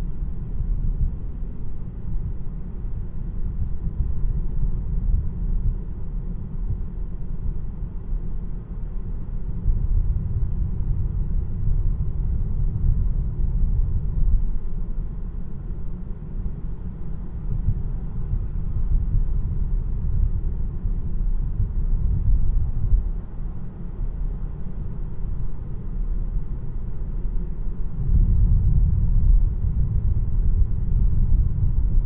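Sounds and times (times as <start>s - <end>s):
road and tyre rumble in car: 0.0s - 32.0s.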